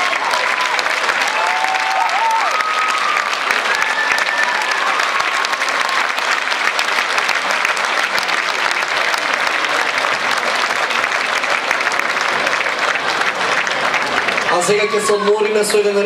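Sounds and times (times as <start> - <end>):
large audience applauding: 0.0 - 16.0.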